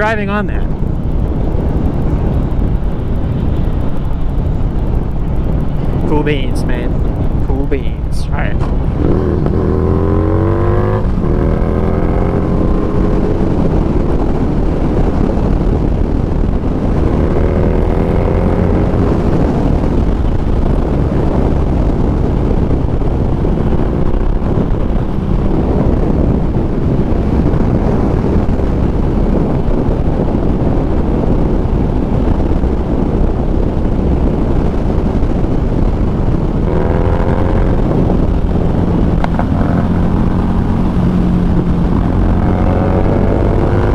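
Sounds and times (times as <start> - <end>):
motorcycle engine running: 0.0 - 43.9
wind over microphone: 0.0 - 43.9.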